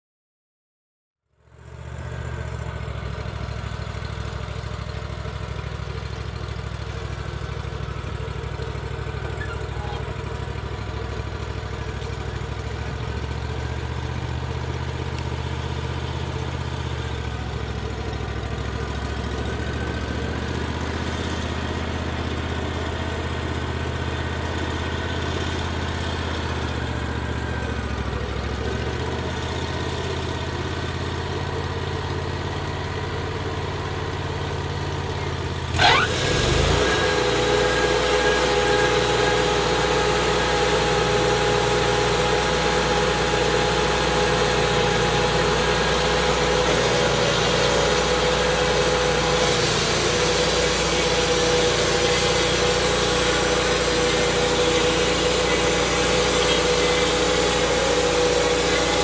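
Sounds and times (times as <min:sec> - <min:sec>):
sawmill engine running: 0:01.5 - 0:59.0.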